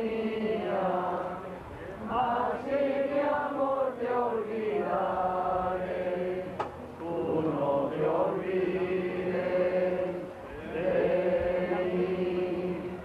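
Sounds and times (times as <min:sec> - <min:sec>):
group singing in chorus: 0:00.0 - 0:13.0.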